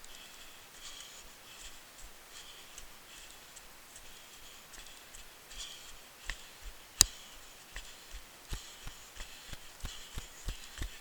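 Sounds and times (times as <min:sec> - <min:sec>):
running footsteps on a trail: 0:00.0 - 0:11.0.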